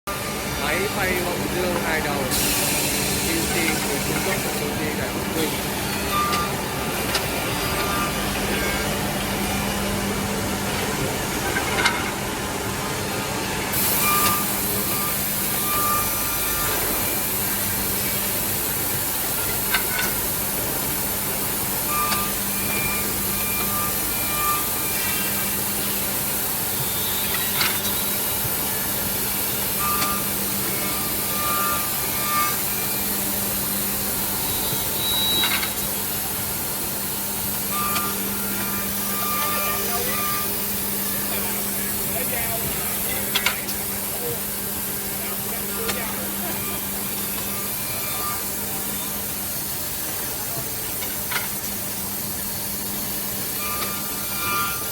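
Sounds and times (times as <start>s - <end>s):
milling machine humming: 0.1s - 54.9s.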